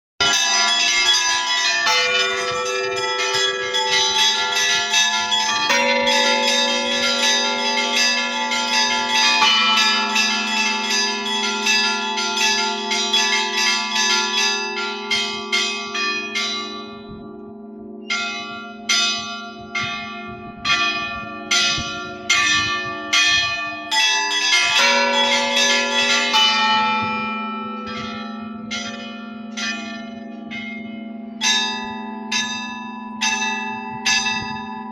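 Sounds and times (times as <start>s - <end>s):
church bells pealing: 0.2s - 34.9s.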